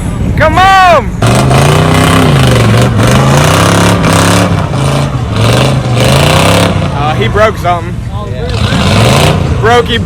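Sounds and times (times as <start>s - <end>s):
off-road vehicle engine revving: 1.1s - 10.0s.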